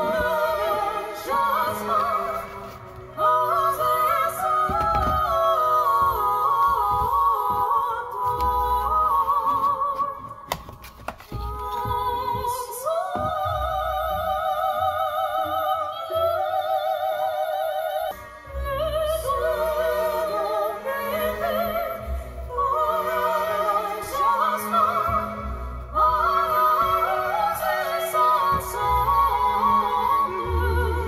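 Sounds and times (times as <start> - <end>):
operatic singing: 0.0 - 31.0.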